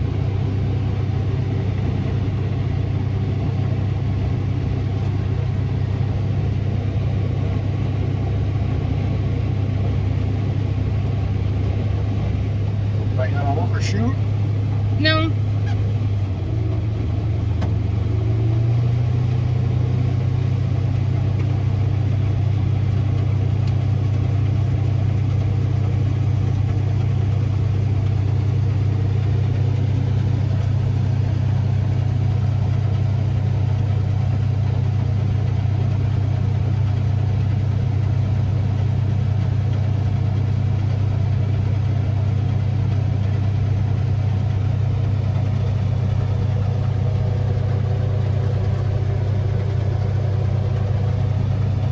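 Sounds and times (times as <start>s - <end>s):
farm machine engine running: 0.0s - 51.9s.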